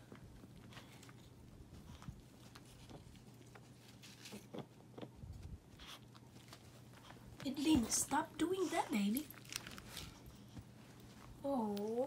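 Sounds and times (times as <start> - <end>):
faint soft ticks and rustles: 0.0 - 12.0.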